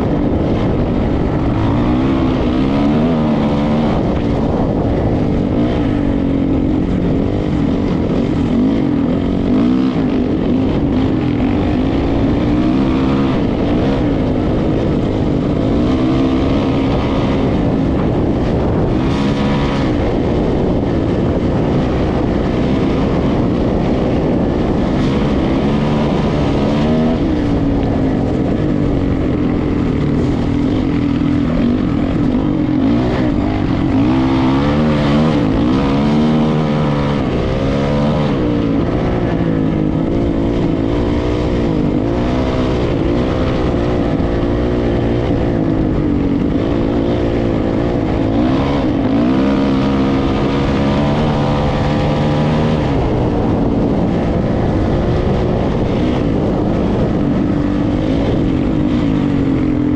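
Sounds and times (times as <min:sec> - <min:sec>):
constant rushing noise: 0:00.0 - 0:59.9
vehicle engine running: 0:00.0 - 0:59.9.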